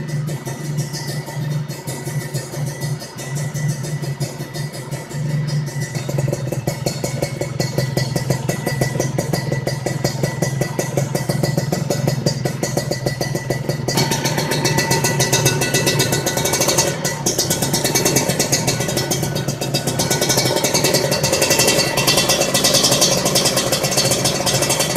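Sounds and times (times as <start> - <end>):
two-stroke motorcycle engine running: 0.0 - 24.9.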